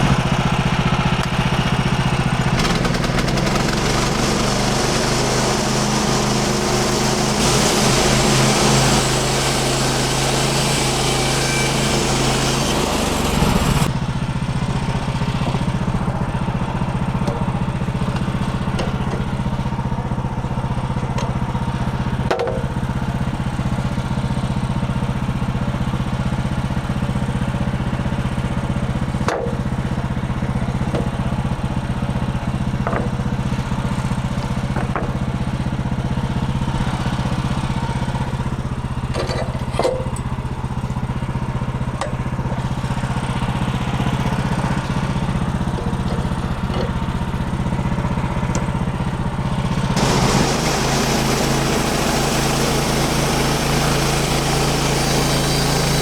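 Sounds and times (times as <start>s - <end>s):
sawmill gas engine running: 0.0s - 56.0s.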